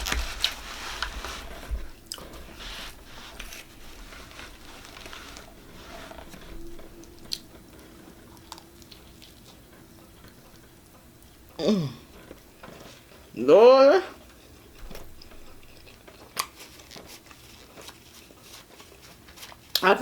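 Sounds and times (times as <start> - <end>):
person chewing pizza: 0.0 - 13.4, 14.2 - 20.0.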